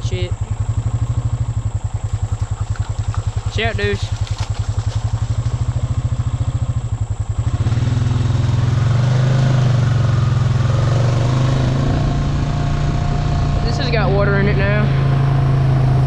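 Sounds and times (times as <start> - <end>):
engine chugging and revving: 0.0 - 16.0.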